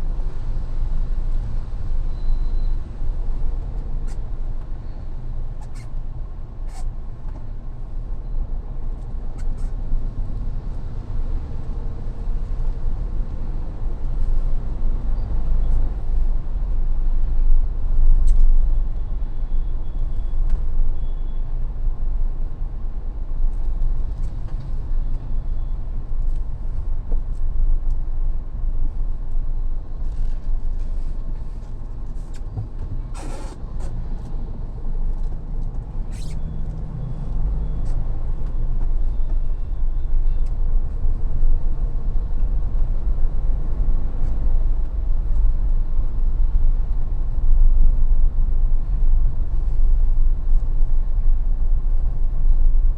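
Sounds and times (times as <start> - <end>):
car engine rumble: 0.0 - 52.9
road noise: 0.0 - 52.9.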